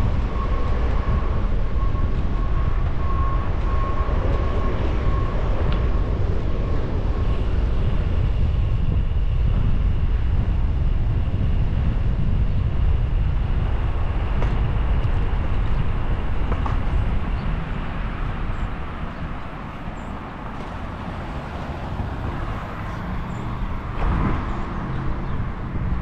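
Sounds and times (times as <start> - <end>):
wind rushing: 0.0 - 26.0.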